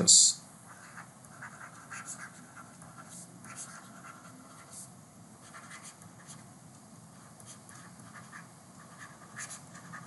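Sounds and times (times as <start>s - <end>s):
stylus scratching on tablet: 0.6s - 6.5s, 7.1s - 10.0s.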